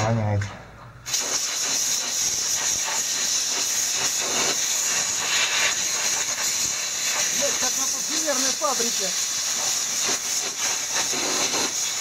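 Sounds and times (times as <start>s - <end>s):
aerosol can spraying hiss: 1.1s - 12.0s.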